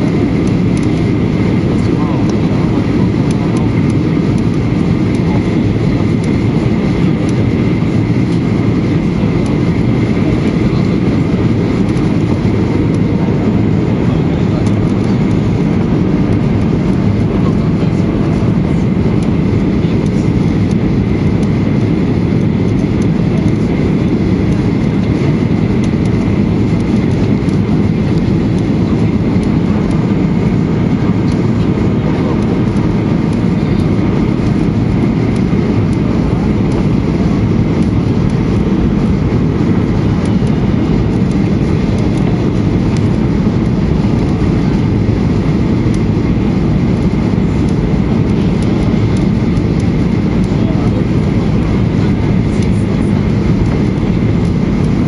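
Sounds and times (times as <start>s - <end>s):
airplane cabin engine rumble: 0.0s - 55.0s
faint steady whine: 0.0s - 55.0s.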